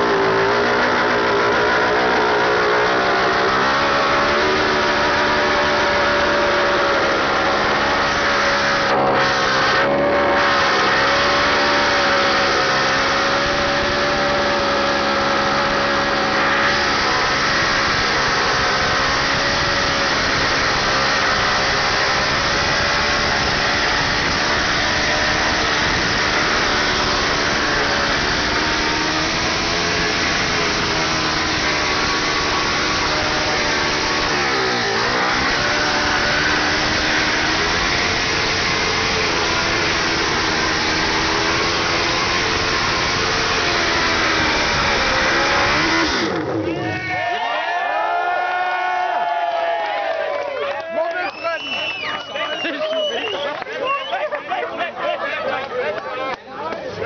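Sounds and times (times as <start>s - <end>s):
motorcycle engine revving high: 0.0s - 47.2s.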